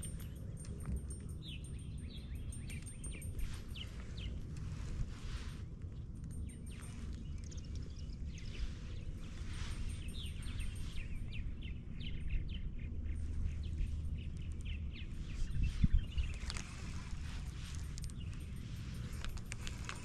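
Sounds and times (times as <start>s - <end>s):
birds singing and chirping: 0.0s - 20.0s
steady low rumble: 0.0s - 20.0s.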